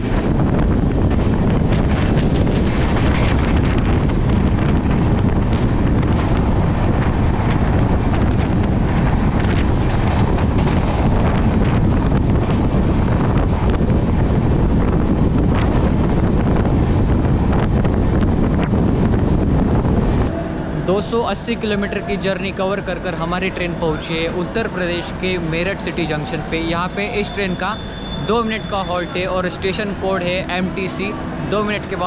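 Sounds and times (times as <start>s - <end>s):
train running noise: 0.0s - 32.0s
wind buffeting microphone: 0.0s - 32.0s.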